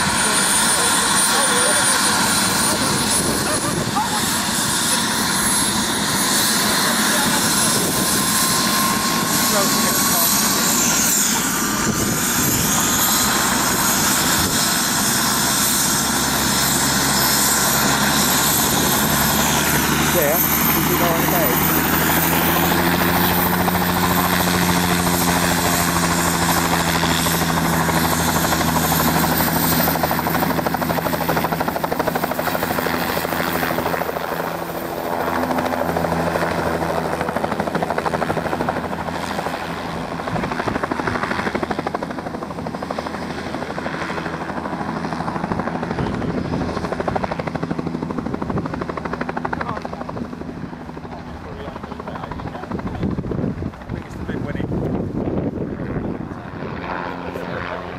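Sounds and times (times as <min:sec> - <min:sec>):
helicopter engine whine: 0:00.0 - 0:57.9
helicopter rotor beat: 0:00.0 - 0:57.9.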